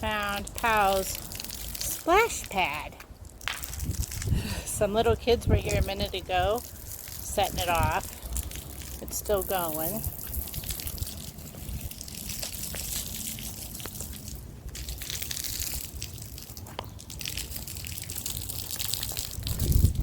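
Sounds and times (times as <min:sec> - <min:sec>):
water jets spraying: 0:00.0 - 0:20.0.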